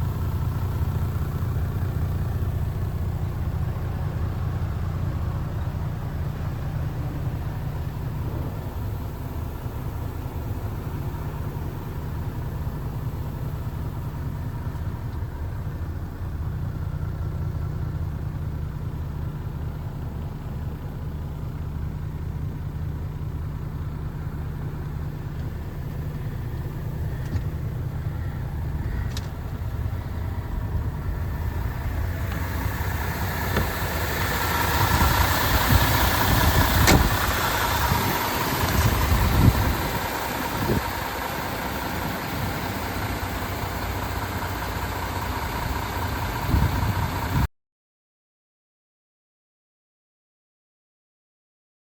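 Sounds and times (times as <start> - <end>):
truck diesel engine idling: 0.0 - 47.5.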